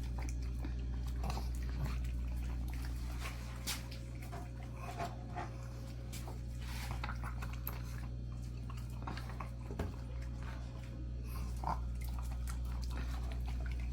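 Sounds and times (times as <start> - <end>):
dogs chewing and smacking: 0.0 - 13.9
steady low hum: 0.0 - 13.9.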